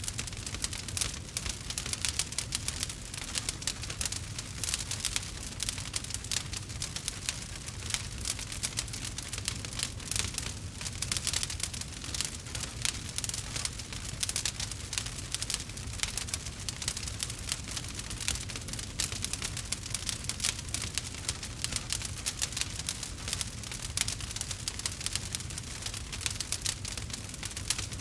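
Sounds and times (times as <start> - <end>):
low rumble of fire: 0.0 - 28.0
wood fire crackling: 0.0 - 28.0.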